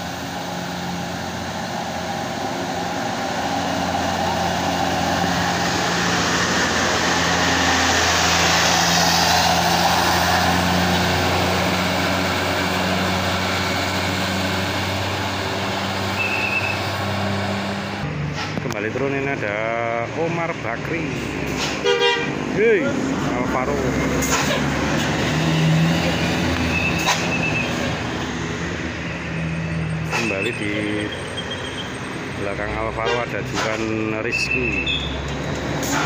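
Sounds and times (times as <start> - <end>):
diesel bus engine climbing: 0.0 - 36.0.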